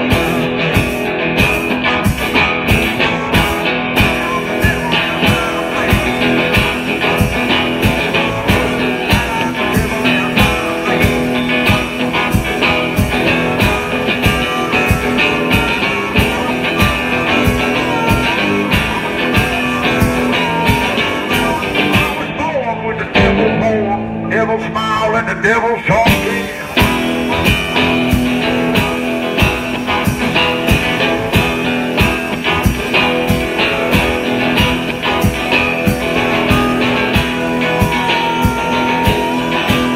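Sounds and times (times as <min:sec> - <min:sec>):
drum kit beating: 0:00.0 - 0:24.2, 0:25.9 - 0:39.9
amplified harmonica: 0:00.0 - 0:39.9.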